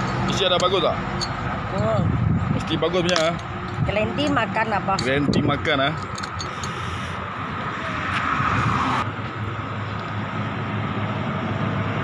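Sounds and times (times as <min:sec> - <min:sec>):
highway traffic: 0:00.0 - 0:12.0.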